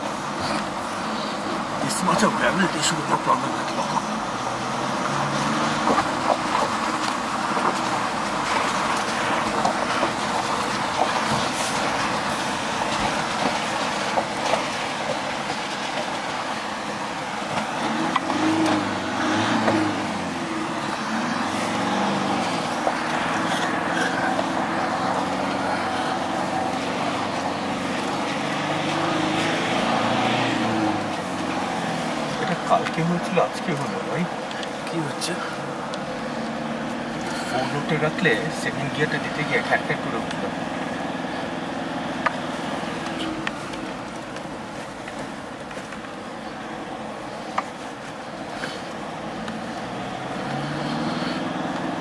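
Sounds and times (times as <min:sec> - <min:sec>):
tyres crunching over gravel: 0:00.0 - 0:52.0
vehicle engine under load: 0:00.0 - 0:52.0.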